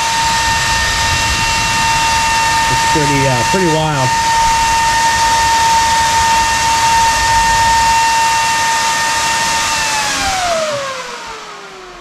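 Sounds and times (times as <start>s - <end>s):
cooling fan whining: 0.0s - 12.0s.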